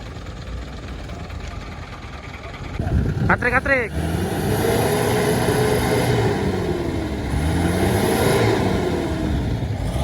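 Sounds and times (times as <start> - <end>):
truck engine running under load: 0.0 - 10.0.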